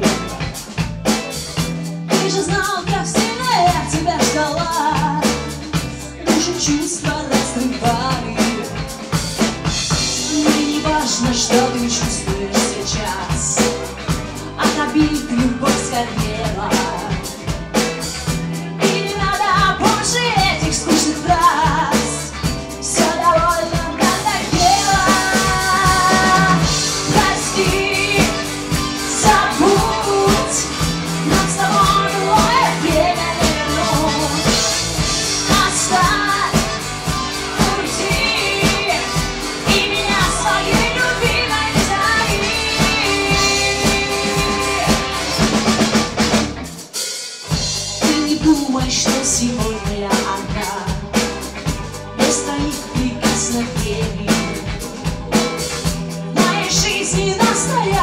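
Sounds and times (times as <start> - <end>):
bass guitar: 0.0 - 58.0
drum kit: 0.0 - 58.0
electric guitar: 0.0 - 58.0.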